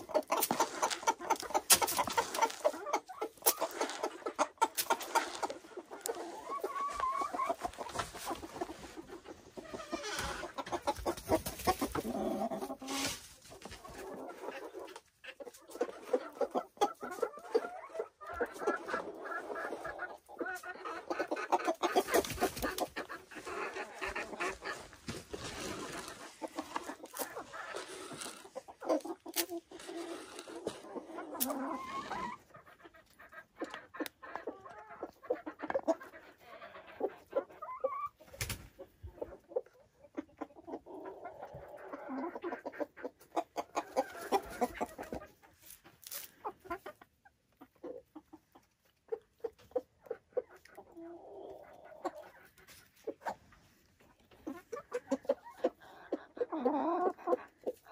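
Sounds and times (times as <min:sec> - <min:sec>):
chickens clucking softly: 0:00.0 - 0:57.9.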